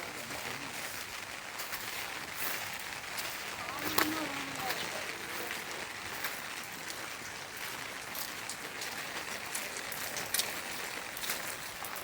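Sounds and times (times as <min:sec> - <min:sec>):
steady rain falling: 0:00.0 - 0:12.0
drips ticking on surfaces: 0:00.8 - 0:12.0.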